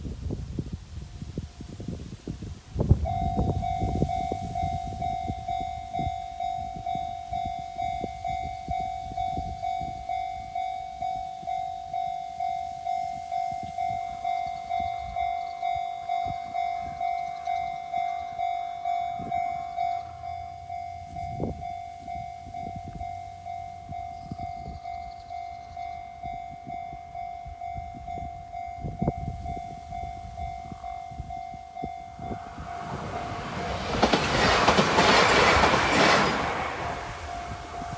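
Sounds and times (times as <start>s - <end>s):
level crossing warning bell: 2.9s - 37.9s.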